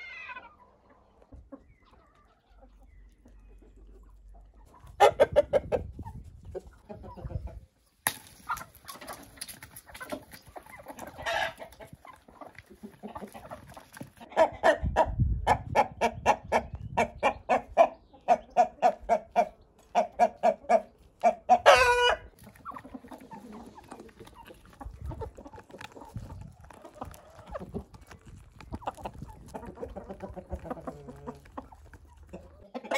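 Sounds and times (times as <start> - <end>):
drawn-out chicken call: 0.0 - 7.8, 8.4 - 32.9
chickens clucking: 0.0 - 32.9.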